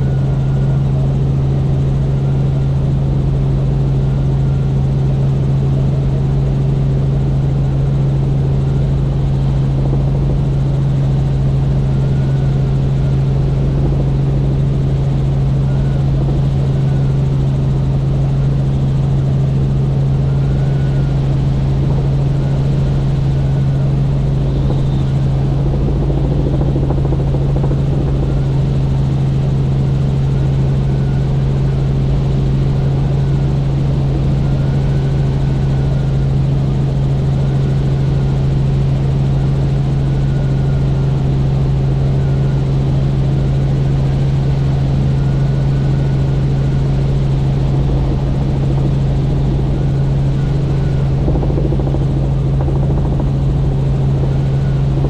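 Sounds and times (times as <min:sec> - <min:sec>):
faint high whine: 0:00.0 - 0:38.5, 0:39.2 - 0:55.0
helicopter rotor and engine drone: 0:00.0 - 0:55.0.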